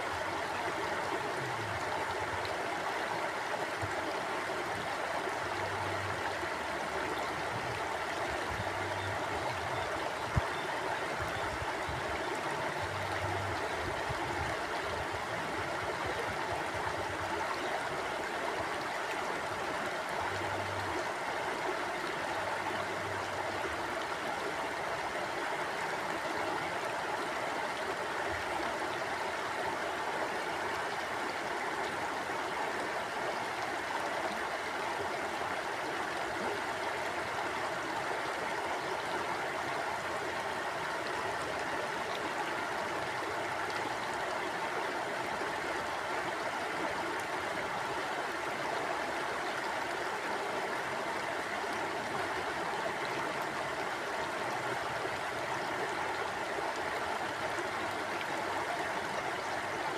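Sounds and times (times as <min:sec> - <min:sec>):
stream water flowing over rocks: 0:00.0 - 0:59.9.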